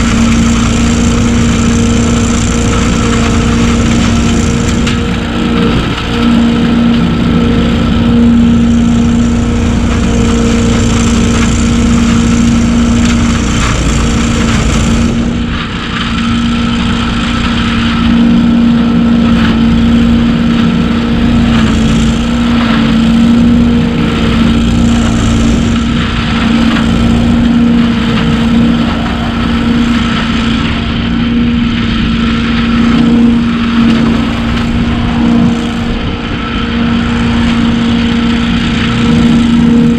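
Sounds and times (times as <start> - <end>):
debris loader engine running: 0.0 - 39.9
leaves rattling through vacuum: 0.0 - 39.9
rough rushing noise: 0.0 - 39.9.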